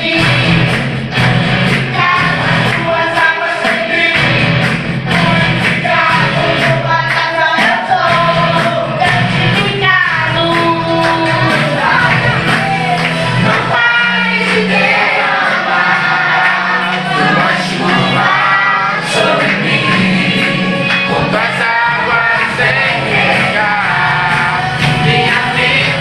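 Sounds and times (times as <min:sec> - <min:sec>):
band accompaniment with beat: 0:00.0 - 0:26.0
children singing: 0:01.6 - 0:26.0.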